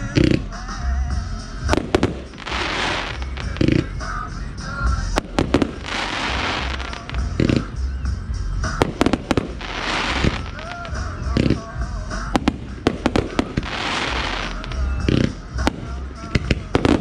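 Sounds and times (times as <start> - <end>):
fireworks crackling: 0.0 - 17.0
fireworks bangs: 1.6 - 4.3, 4.9 - 7.8, 8.6 - 17.0.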